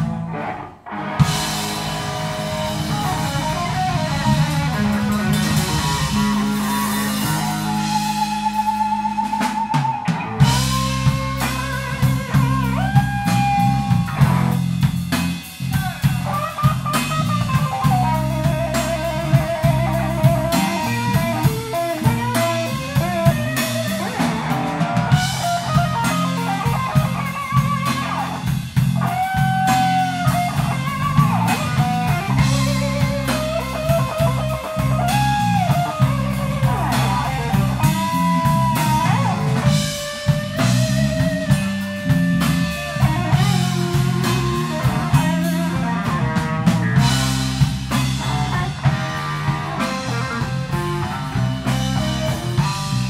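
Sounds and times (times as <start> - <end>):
drum kit: 0.0 - 53.0
electric bass: 0.0 - 53.0
electric guitar lead: 0.0 - 53.0.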